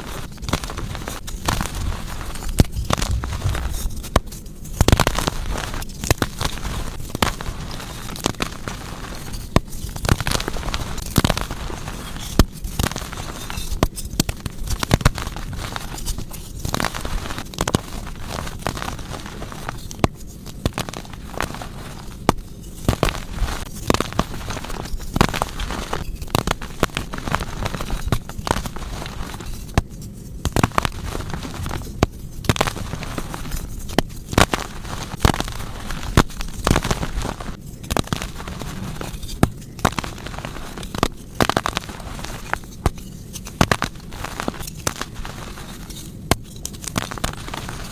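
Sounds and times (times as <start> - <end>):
chalk crunching and cracking: 0.0 - 47.9.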